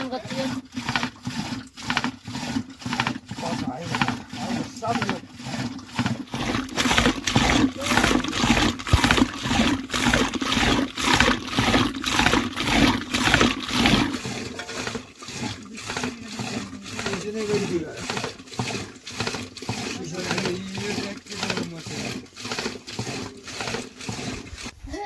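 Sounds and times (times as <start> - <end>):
liquid sloshing in a churn: 0.0 - 25.0.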